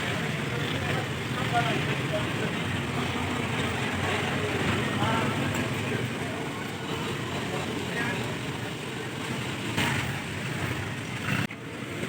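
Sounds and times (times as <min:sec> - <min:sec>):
people talking: 0:00.0 - 0:10.3
street traffic: 0:00.0 - 0:12.0.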